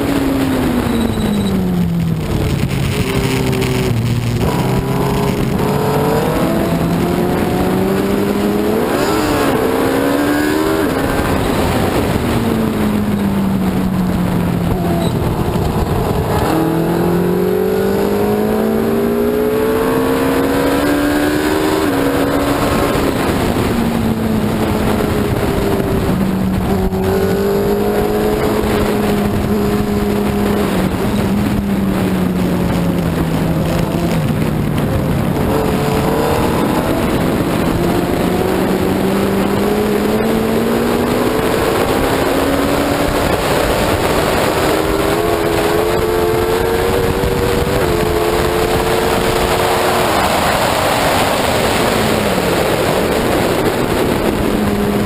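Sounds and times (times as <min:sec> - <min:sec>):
loud rushing noise: 0:00.0 - 0:55.0
racing engine revving: 0:00.0 - 0:55.0.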